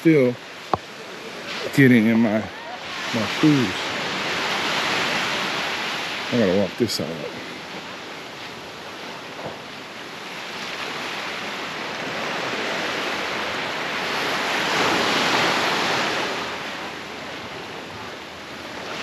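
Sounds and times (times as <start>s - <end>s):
small waves washing on beach: 0.0s - 19.0s.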